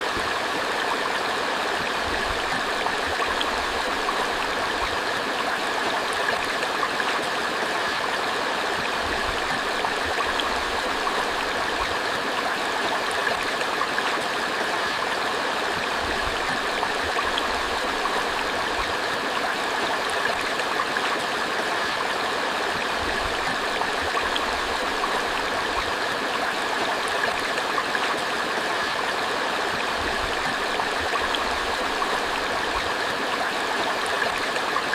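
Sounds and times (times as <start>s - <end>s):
creek water flowing: 0.0s - 34.9s.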